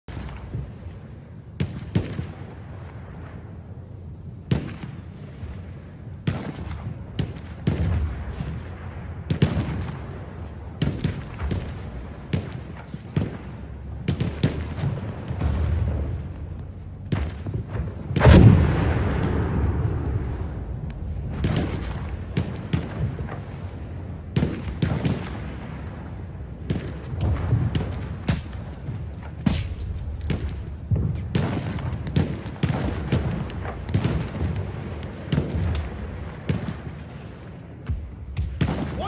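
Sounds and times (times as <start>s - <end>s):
gunshots and booms: 0.1s - 3.6s, 4.4s - 39.0s
distant artillery rumble: 0.1s - 39.0s.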